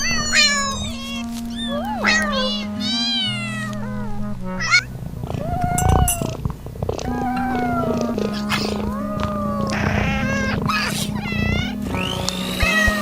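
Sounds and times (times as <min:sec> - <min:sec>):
cat meowing: 0:00.0 - 0:06.4, 0:07.1 - 0:13.0
background music: 0:00.0 - 0:13.0.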